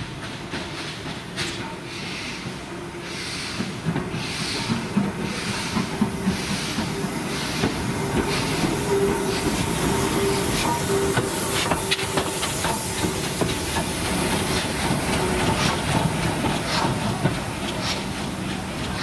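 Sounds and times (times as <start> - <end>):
steam locomotive chuffing: 0.0 - 19.0
steam hissing: 0.6 - 19.0.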